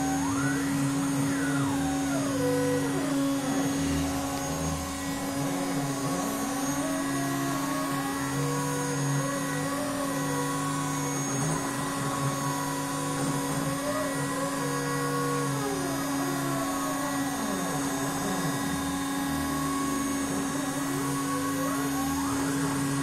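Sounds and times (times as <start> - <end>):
steady machine hum: 0.0 - 23.0
stepper motors whining: 0.0 - 23.0.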